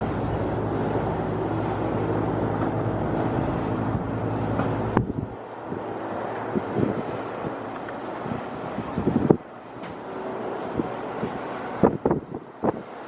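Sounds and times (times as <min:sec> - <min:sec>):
engine drone: 0:00.0 - 0:13.0
wind buffeting microphone: 0:00.0 - 0:13.0.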